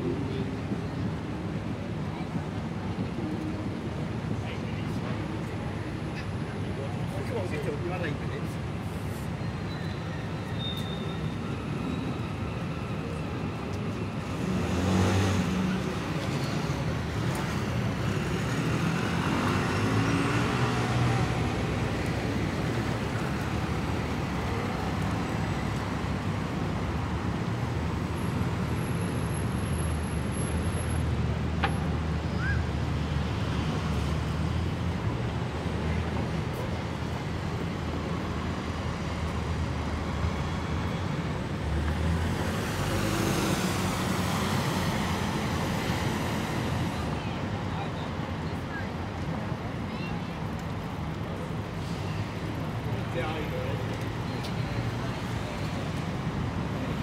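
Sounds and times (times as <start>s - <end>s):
low traffic rumble: 0.0s - 57.0s
vehicles driving past: 10.2s - 57.0s.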